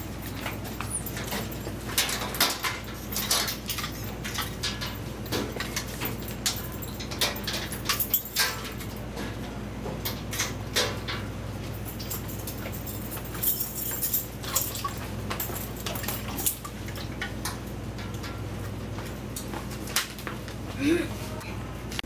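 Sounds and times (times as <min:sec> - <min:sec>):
metal lockers clicking and rattling: 0:00.0 - 0:18.7
steady low hum: 0:00.0 - 0:22.0.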